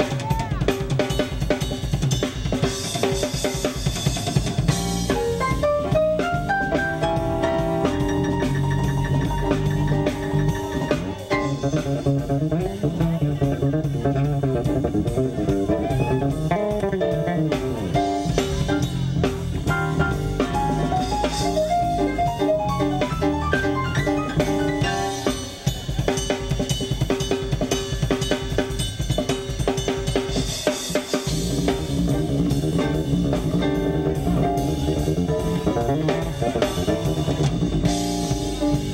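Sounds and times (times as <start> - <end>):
blues band playing: 0.0 - 38.9
electric guitar: 0.0 - 38.9
keyboard: 0.0 - 38.9.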